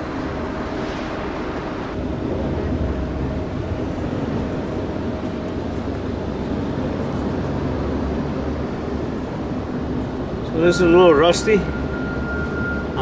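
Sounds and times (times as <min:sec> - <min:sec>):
wind buffeting microphone: 0:00.0 - 0:10.5
faint mechanical hum: 0:00.0 - 0:13.0.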